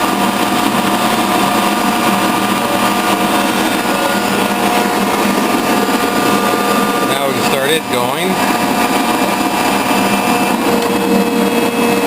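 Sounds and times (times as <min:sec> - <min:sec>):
metal lathe and shaper humming: 0:00.0 - 0:12.0.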